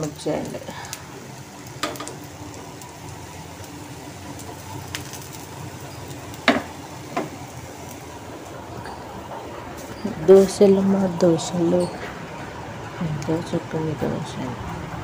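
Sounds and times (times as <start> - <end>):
kitchen background: 0.0 - 14.7.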